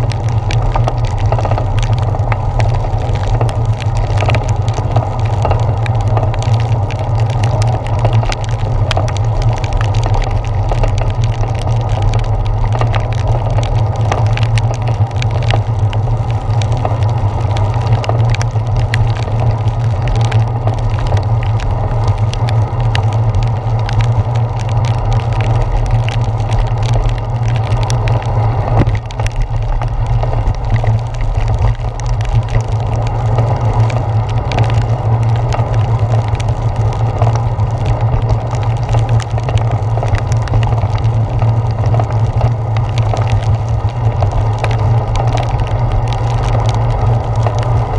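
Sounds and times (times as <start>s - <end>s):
muffled wind and road rumble: 0.0s - 47.9s
raindrops ticking on camera housing: 0.0s - 47.9s.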